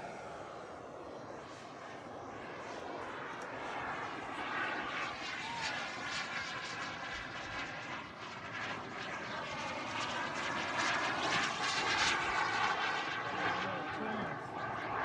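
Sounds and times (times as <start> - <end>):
model jet turbine whine: 0.0 - 15.0.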